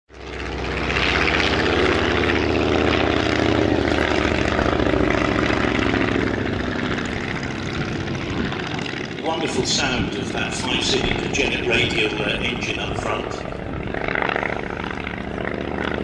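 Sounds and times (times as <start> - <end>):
propeller aircraft engine running: 0.1 - 16.0.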